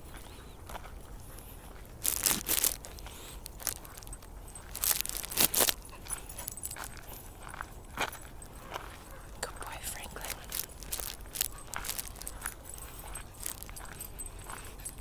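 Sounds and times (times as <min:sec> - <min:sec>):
footsteps crunching on gravel: 0:00.1 - 0:15.0.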